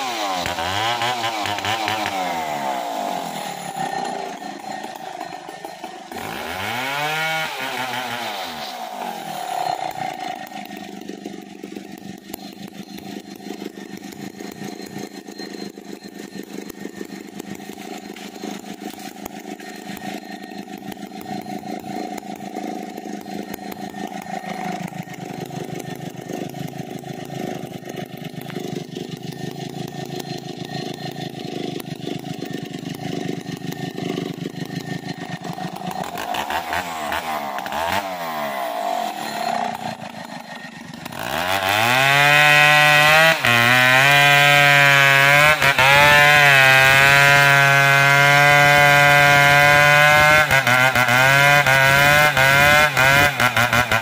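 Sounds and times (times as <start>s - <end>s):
chainsaw cutting into tree trunk: 0.0s - 54.0s
chainsaw idling: 0.0s - 54.0s.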